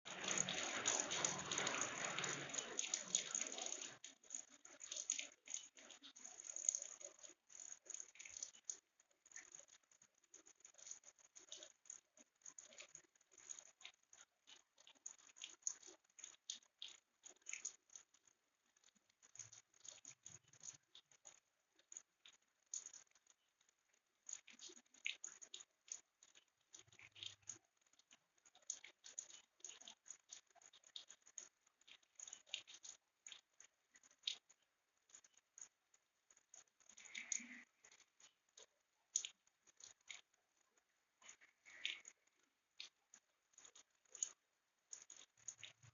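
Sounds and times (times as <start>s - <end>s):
raindrops pattering faintly: 0.0s - 45.9s.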